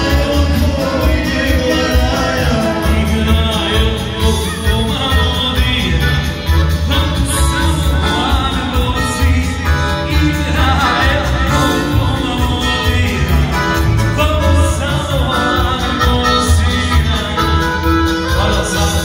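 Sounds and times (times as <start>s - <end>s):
folk band over loudspeakers: 0.0s - 19.0s
person singing: 0.0s - 19.0s
steady bass beat: 0.0s - 19.0s.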